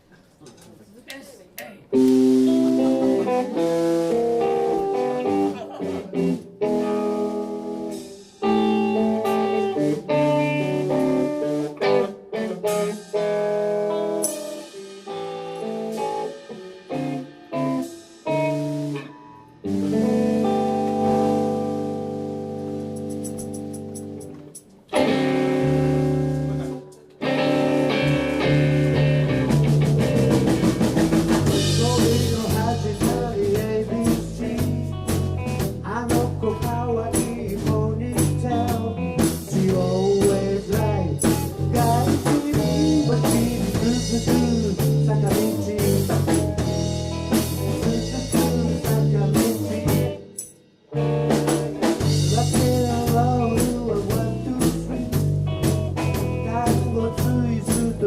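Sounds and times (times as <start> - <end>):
drums keeping steady beat: 1.1 - 21.6, 22.5 - 24.4, 25.0 - 58.0
rock band playing: 1.9 - 58.0.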